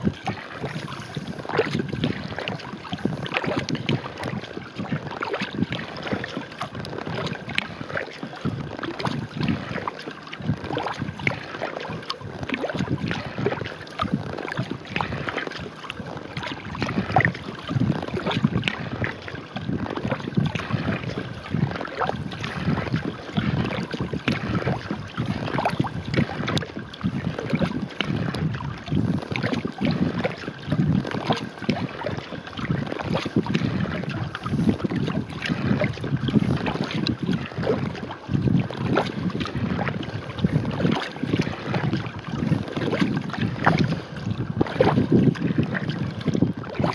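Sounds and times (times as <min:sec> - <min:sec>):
paddle splashing in water: 0:00.0 - 0:46.9.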